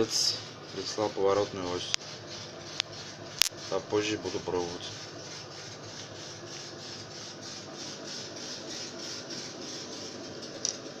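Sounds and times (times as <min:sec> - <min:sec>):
laser cutter whirring: 0:00.0 - 0:11.0.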